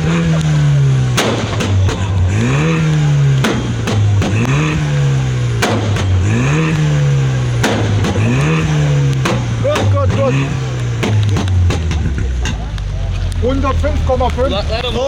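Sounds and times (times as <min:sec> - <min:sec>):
car engine revving: 0:00.0 - 0:15.0
exhaust bangs: 0:00.0 - 0:15.0.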